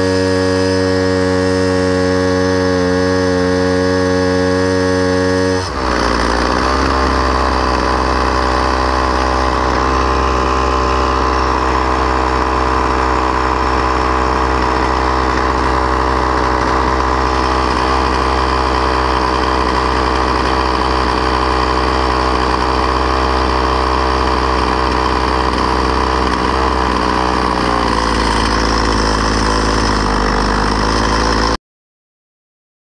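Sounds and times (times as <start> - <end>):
string trimmer engine idling: 0.0 - 31.6.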